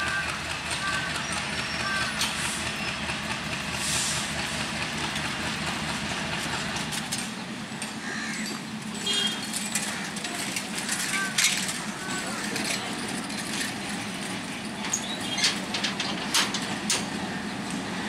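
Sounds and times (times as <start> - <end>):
locomotive engine humming: 0.0 - 18.0.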